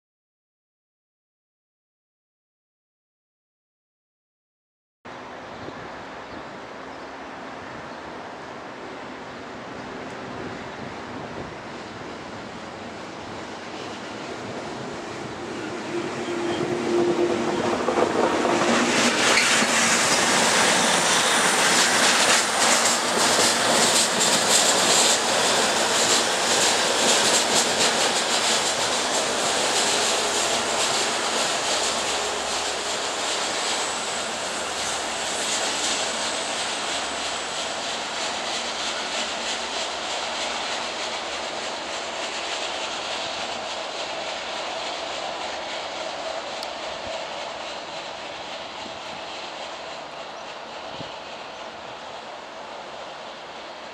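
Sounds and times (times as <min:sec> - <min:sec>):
rail vehicle engine drone: 0:05.1 - 0:53.9.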